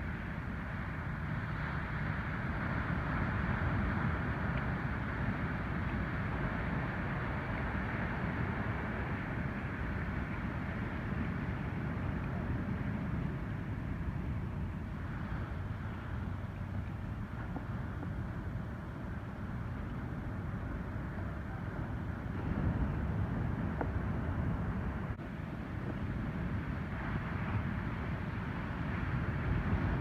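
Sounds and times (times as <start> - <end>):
ocean surf breaking on beach: 0.0 - 30.0.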